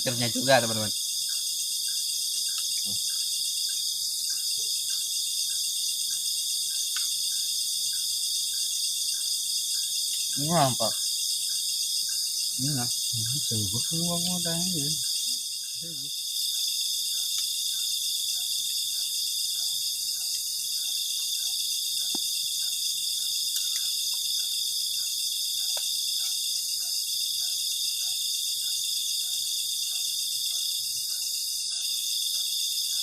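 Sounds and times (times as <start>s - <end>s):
faint insect chirp: 0.0s - 33.0s
insects high-pitched ringing: 0.0s - 33.0s.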